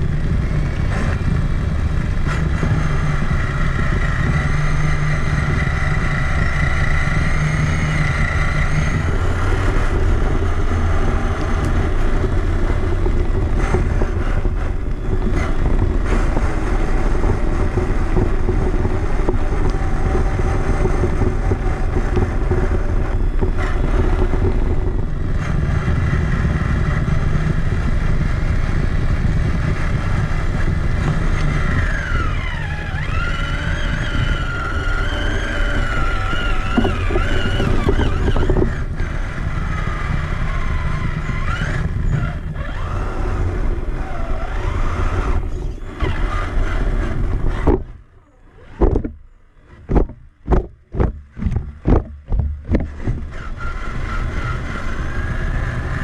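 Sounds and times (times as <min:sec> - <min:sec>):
electric motor whining: 0:00.0 - 0:56.0
rc truck chassis rumble and rattle: 0:00.0 - 0:56.0.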